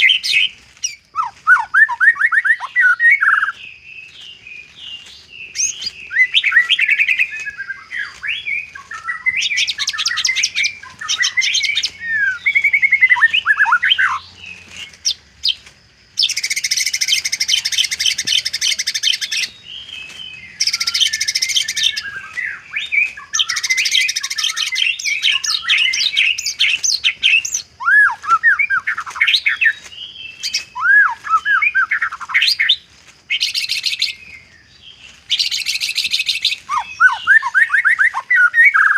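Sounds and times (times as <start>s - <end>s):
bird whistled song: 0.0s - 15.6s, 16.2s - 38.9s.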